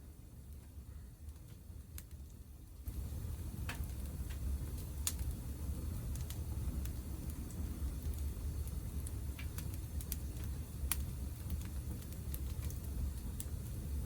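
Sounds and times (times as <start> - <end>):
wood fire crackling and popping: 0.1 - 14.0.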